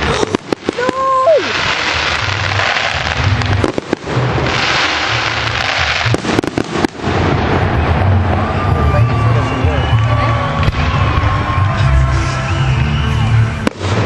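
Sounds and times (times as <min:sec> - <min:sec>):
fireworks exploding and crackling: 0:00.0 - 0:14.0.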